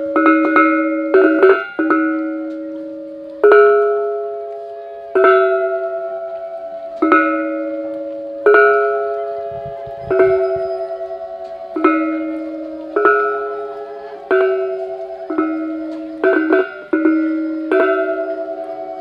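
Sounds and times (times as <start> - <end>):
metallophones striking chords: 0.0 - 19.0.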